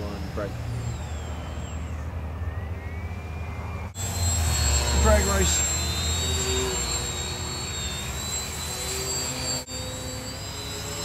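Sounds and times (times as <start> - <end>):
rc plane motors whining: 0.0 - 11.0.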